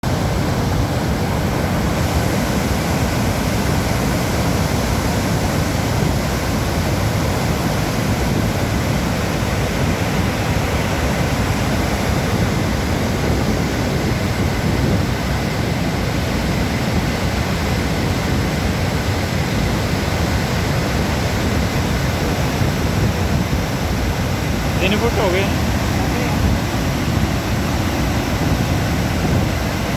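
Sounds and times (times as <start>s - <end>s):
roar of rushing water: 0.0s - 29.9s.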